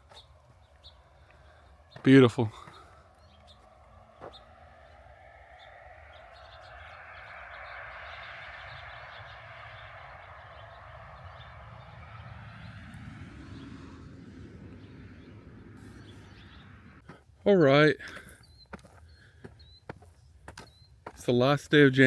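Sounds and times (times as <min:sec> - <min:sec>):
outdoor rushing noise: 0:00.0 - 0:18.4
small birds chirping faintly: 0:00.0 - 0:22.0.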